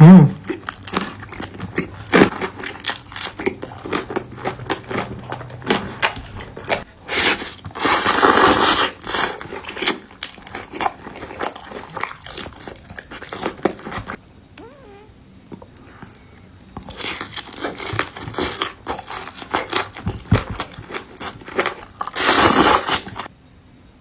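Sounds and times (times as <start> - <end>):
wet chewing and smacking: 0.4 - 14.4, 15.7 - 23.3.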